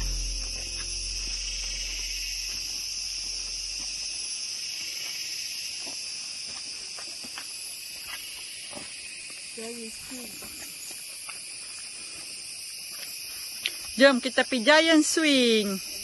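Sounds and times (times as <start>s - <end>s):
rainforest insects buzzing: 0.0s - 16.0s.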